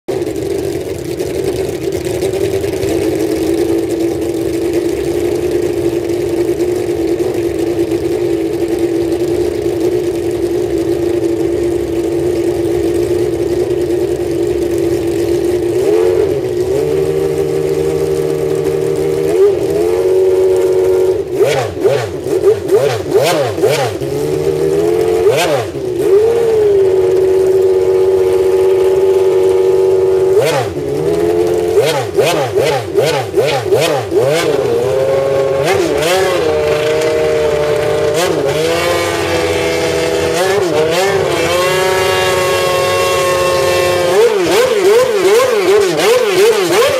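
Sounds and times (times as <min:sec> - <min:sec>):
racing engine idling and revving: 0:00.0 - 0:46.9.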